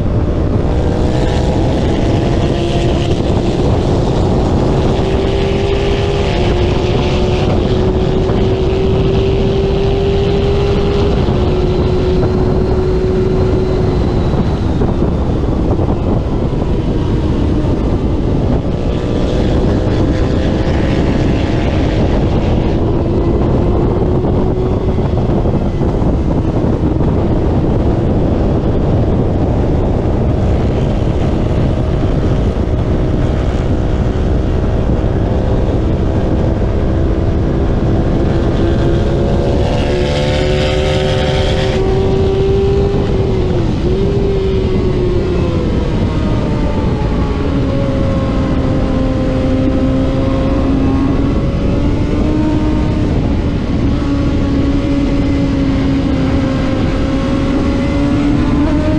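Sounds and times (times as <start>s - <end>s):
racing motorcycle engine: 0.0s - 58.9s
wind rush: 0.0s - 58.9s.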